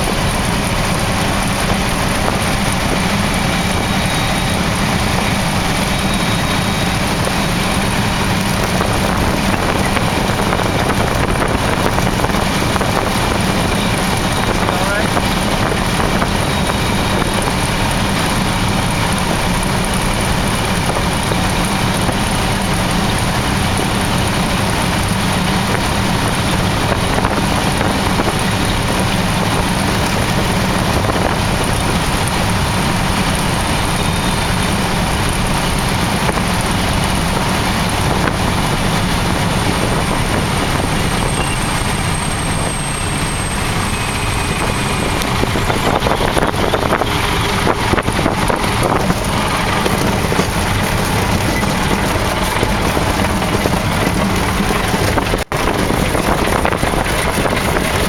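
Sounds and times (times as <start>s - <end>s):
light aircraft engine and propeller: 0.0s - 58.0s
rushing airflow: 0.0s - 58.0s.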